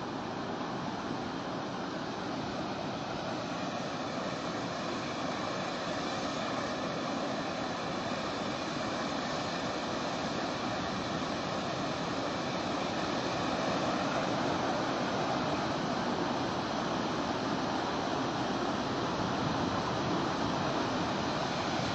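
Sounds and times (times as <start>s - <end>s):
floodwater rushing: 1.9s - 21.9s.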